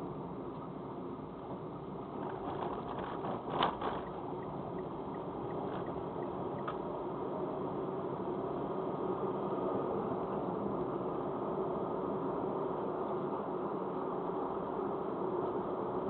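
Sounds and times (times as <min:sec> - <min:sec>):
road and tyre noise: 0:00.0 - 0:16.0.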